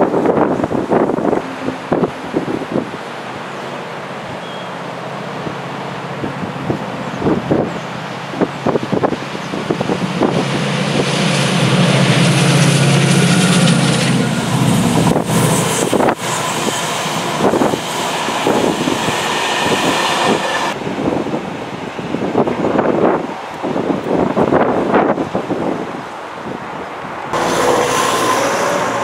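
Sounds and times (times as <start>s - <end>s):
wind buffeting microphone: 0.0s - 3.4s, 5.4s - 29.0s
locomotive engine hum: 0.0s - 22.2s, 27.0s - 29.0s
wheels rushing on rails: 0.0s - 29.0s.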